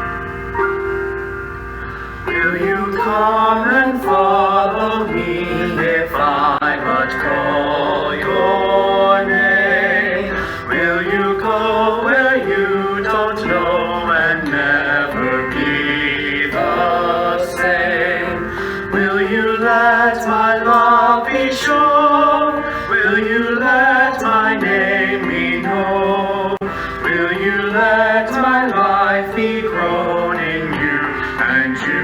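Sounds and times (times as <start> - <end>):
instrumental accompaniment: 0.0 - 32.0
person singing a hymn: 2.0 - 32.0.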